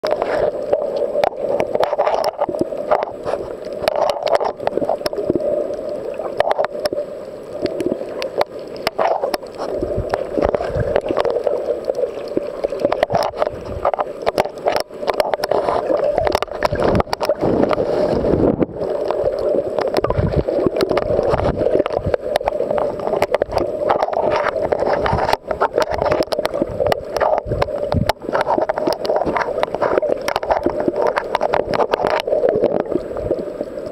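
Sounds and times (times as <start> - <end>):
underwater clicks and crackles: 0.0 - 33.9
underwater water wash: 0.0 - 33.9.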